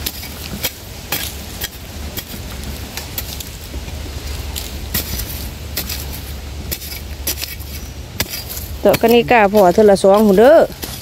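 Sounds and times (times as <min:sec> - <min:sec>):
hoe scraping dry soil: 0:00.0 - 0:11.0
low steady rumble: 0:00.0 - 0:11.0.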